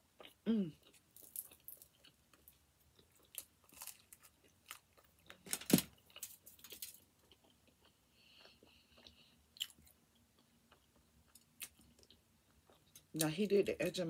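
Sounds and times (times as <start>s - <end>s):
chewing crunchy crust: 0.2s - 13.2s.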